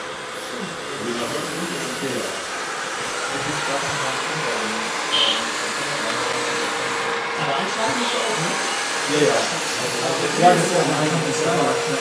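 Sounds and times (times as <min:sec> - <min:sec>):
electric pump whirring: 0:00.0 - 0:12.0
indistinct voices: 0:00.0 - 0:12.0.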